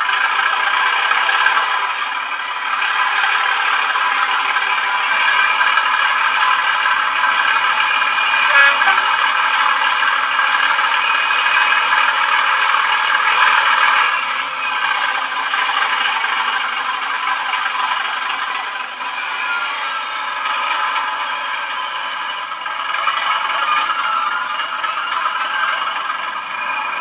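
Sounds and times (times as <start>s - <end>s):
diesel engine through small speaker: 0.0s - 27.0s.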